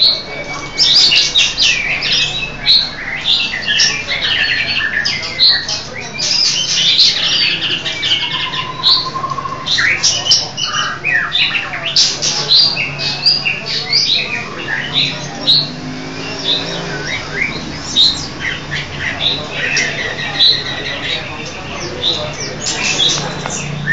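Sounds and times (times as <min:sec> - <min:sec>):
caged songbirds singing: 0:00.0 - 0:23.9.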